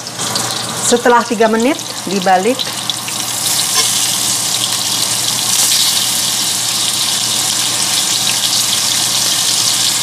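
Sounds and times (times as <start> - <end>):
steak sizzling in a frying pan: 0.0 - 10.0.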